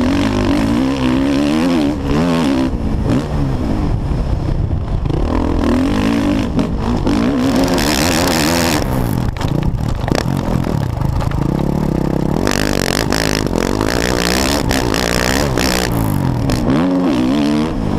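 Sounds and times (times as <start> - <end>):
motorcycle engine revving: 0.0 - 17.9
wind rushing over microphone: 0.0 - 17.9.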